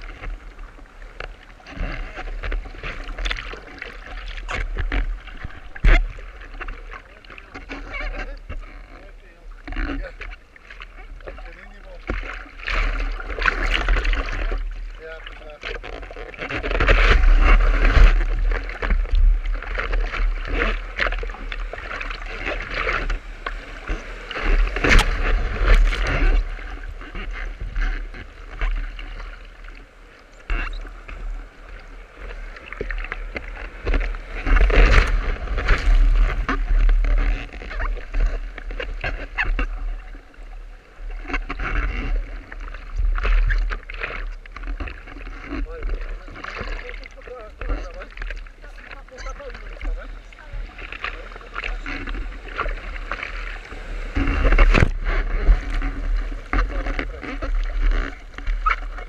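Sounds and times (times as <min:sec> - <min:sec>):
surf splashing against surfboard: 0:00.0 - 0:59.0.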